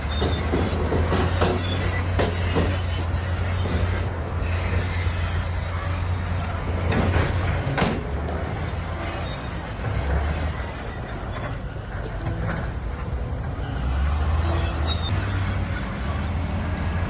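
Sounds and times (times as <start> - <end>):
bulldozer diesel engine running: 0.0 - 17.0
steel tracks clanking and squealing: 0.0 - 17.0.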